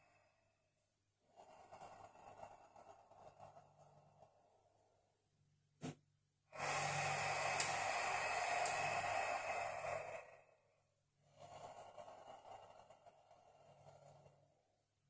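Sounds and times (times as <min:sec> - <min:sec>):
soft breath: 0:00.0 - 0:05.1, 0:06.5 - 0:14.8.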